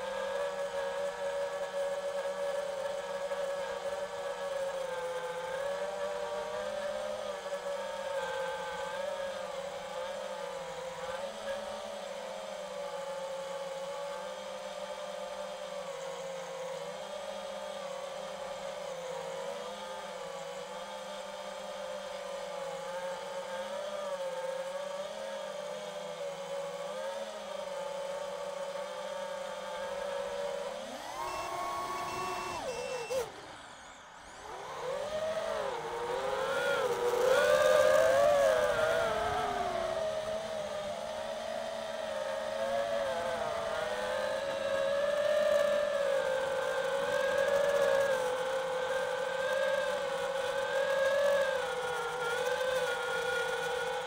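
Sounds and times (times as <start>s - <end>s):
drone propellers whining: 0.0s - 17.1s, 17.9s - 54.0s.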